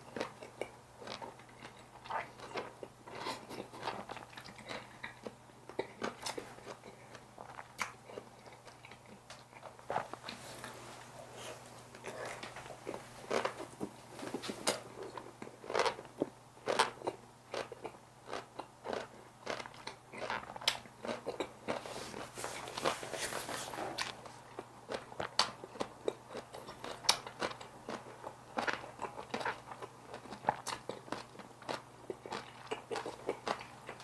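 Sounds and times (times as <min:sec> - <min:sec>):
person chewing crunchy food: 0:00.0 - 0:34.0.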